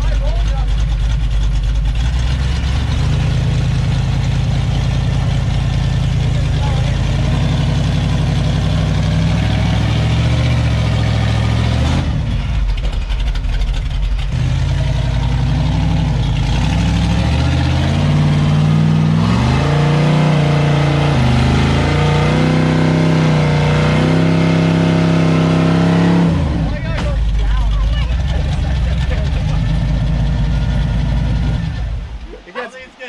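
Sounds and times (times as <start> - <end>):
buggy engine revving under load: 0.0 - 32.4.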